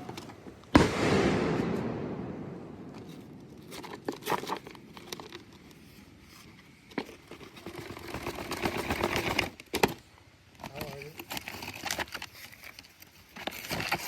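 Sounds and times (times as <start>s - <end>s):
rustling and crinkling: 0.0s - 0.8s, 1.4s - 14.0s.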